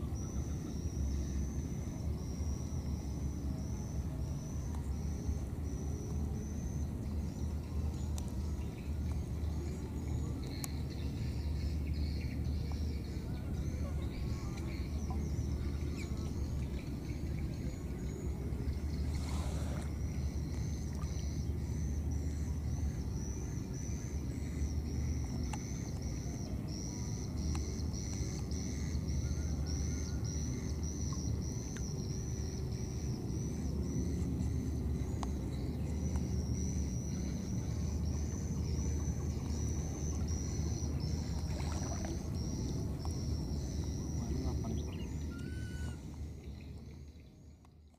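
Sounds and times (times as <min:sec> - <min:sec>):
steady low rumble: 0:00.0 - 0:47.9.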